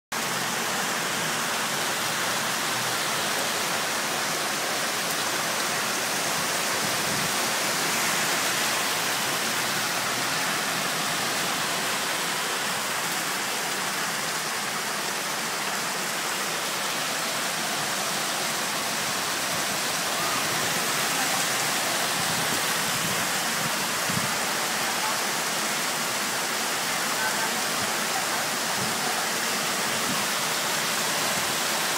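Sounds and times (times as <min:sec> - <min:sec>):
heavy rain on street and cars: 0:00.1 - 0:31.9.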